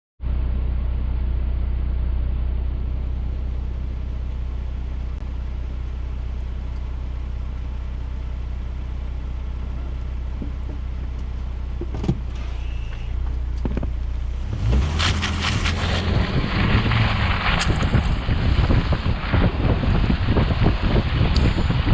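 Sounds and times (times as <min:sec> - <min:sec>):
car engine idling: 0:00.2 - 0:21.9.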